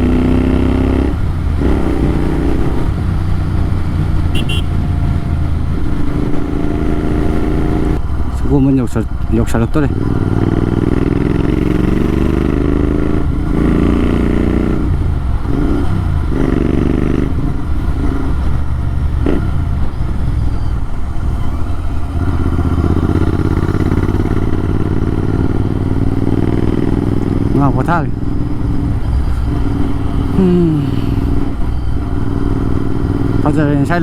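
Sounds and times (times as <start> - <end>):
motorcycle open exhaust drone: 0.0 - 34.0.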